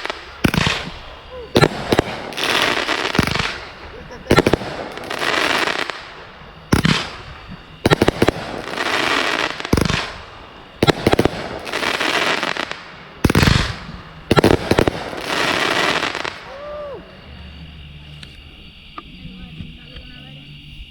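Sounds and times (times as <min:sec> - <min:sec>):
fireworks bangs: 0:00.0 - 0:19.0
fireworks crackling: 0:00.0 - 0:19.2.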